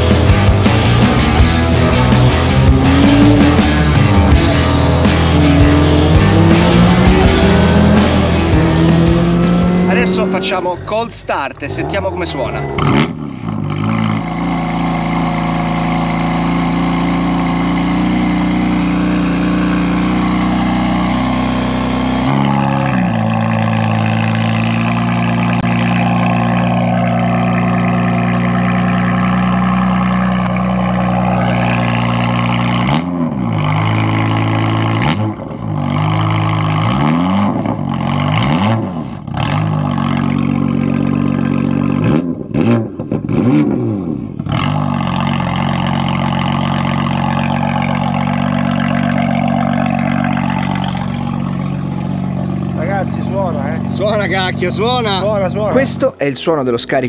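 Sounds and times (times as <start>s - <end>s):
car engine idling: 0.0s - 37.0s, 39.0s - 43.2s, 44.2s - 57.0s
engine throttle blips: 0.0s - 57.0s.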